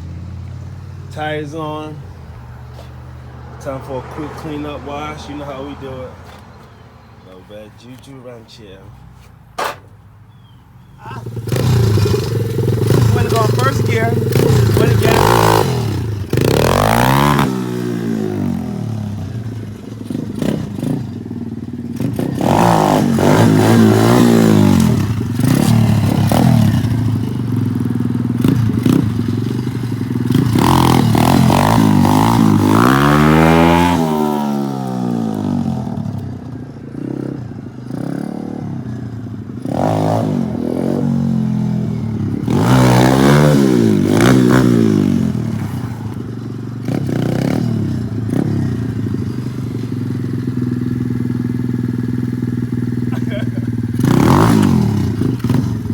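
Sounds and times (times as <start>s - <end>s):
dirt bike engine revving: 9.6s - 55.9s.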